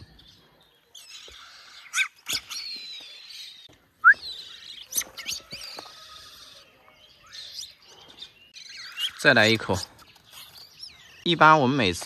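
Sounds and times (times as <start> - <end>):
young birds begging calls: 1.0 - 11.8.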